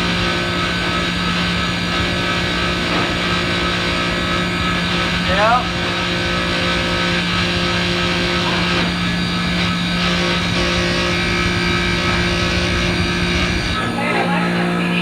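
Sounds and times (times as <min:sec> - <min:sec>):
constant rushing noise: 0:00.0 - 0:15.0
ice machine compressor hum: 0:00.0 - 0:15.0.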